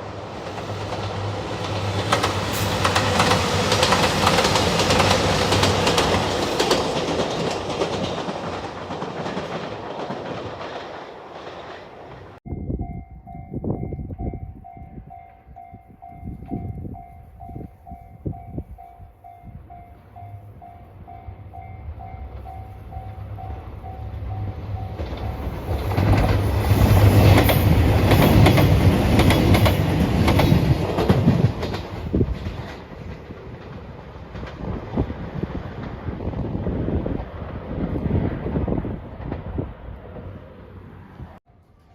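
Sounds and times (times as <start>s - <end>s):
train passing: 0.0s - 41.9s.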